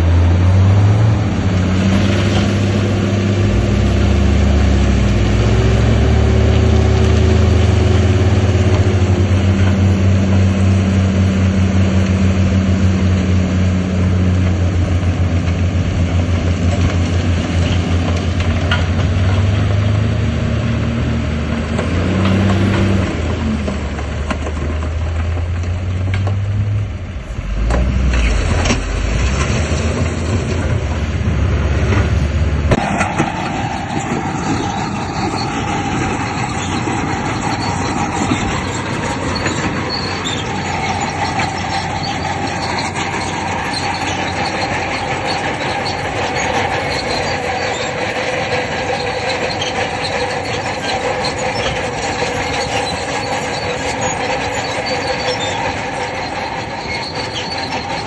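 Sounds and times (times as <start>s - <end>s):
steel tracks squealing and clattering: 0.0s - 26.4s, 27.1s - 58.0s
bulldozer engine rumble: 0.0s - 58.0s.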